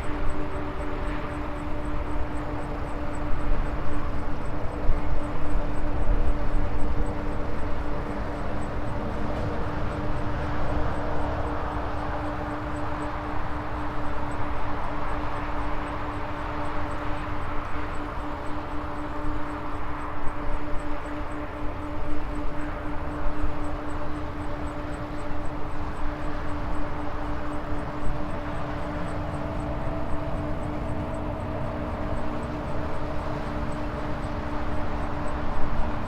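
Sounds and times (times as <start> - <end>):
electric hub motor whine: 0.0 - 36.0.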